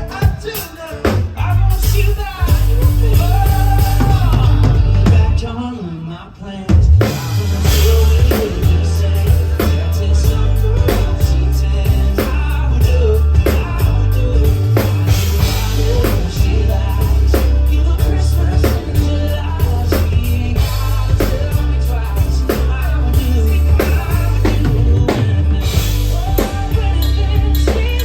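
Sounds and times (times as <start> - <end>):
drums keeping steady beat: 0.0 - 5.6, 6.6 - 28.0
live band playing: 0.0 - 28.0.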